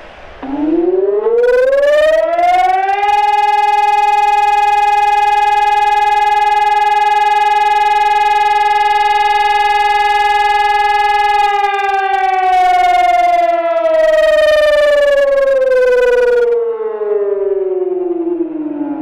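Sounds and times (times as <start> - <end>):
electronic siren: 0.4 - 19.0.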